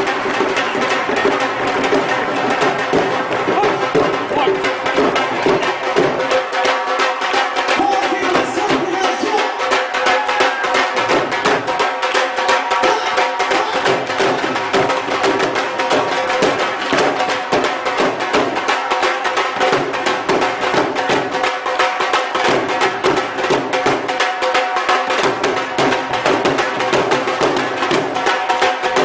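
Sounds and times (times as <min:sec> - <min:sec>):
barrel drums played fast: 0:00.0 - 0:29.0.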